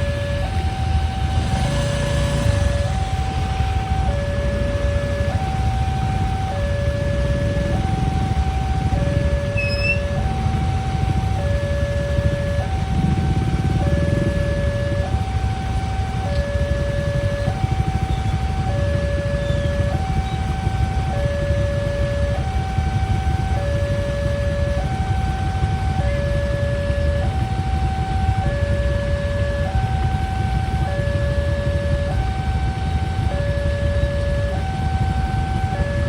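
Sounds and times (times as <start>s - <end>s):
steady low rumble: 0.0s - 36.0s
two-tone electronic siren: 0.0s - 36.0s.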